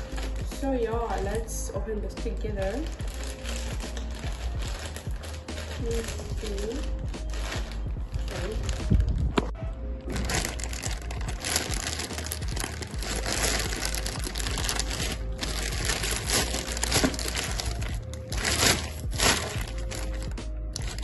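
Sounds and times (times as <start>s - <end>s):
plastic bag crinkling and tearing: 0.0s - 0.6s, 2.7s - 9.5s, 10.1s - 21.0s
music: 0.0s - 21.0s.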